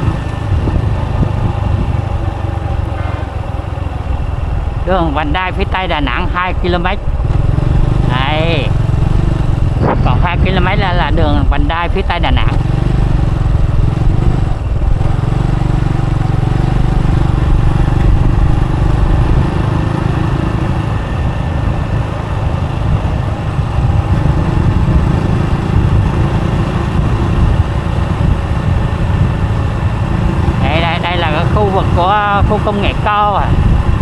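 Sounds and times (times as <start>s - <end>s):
motorbike engine drone: 0.0s - 34.0s
wind and road noise: 0.0s - 34.0s.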